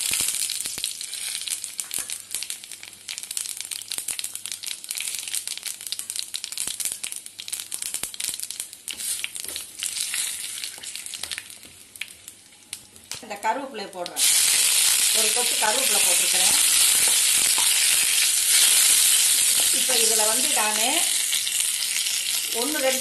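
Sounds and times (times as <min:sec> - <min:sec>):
crackling and popping: 0:00.0 - 0:23.0
seeds frying in hot oil: 0:00.0 - 0:23.0.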